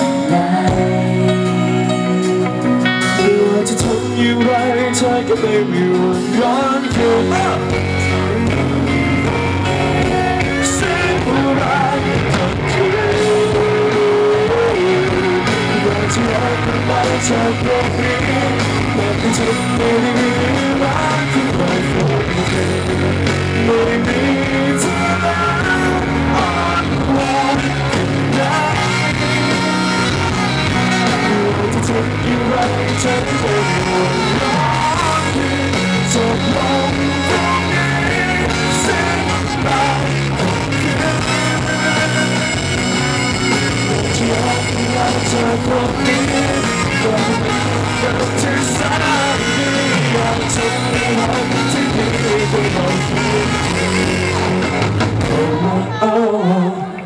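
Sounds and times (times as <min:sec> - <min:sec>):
amplified backing music: 0:00.0 - 0:57.0
man singing into microphone: 0:00.0 - 0:57.0.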